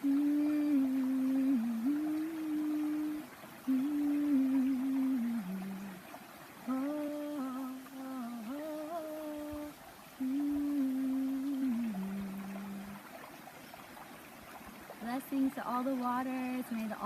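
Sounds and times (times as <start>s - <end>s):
woman humming a chant: 0.0s - 13.1s, 15.0s - 17.0s.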